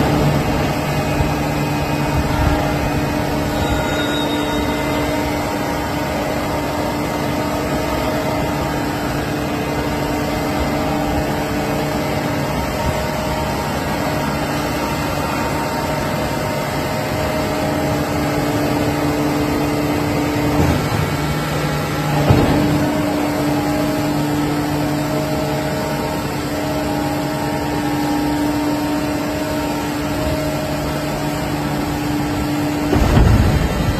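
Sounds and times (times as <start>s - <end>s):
hydraulic baler machine hum: 0.0s - 33.9s.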